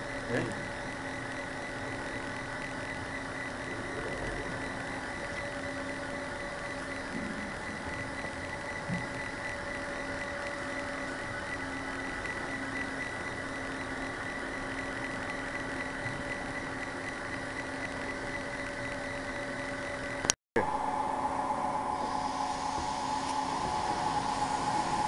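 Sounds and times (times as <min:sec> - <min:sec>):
lathe machine hum and whine: 0:00.0 - 0:25.0.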